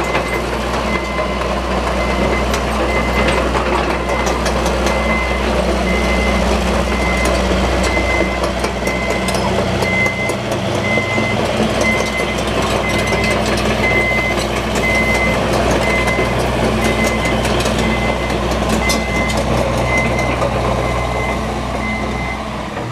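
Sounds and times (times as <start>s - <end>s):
travel alarm beeping: 0.0s - 3.3s, 4.1s - 16.3s, 16.9s - 20.3s
diesel engine running: 0.0s - 22.9s.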